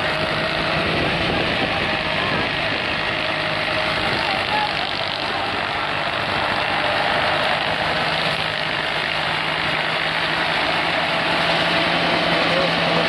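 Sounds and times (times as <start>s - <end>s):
low engine hum: 0.0s - 13.0s
thresher rushing noise: 0.0s - 13.0s.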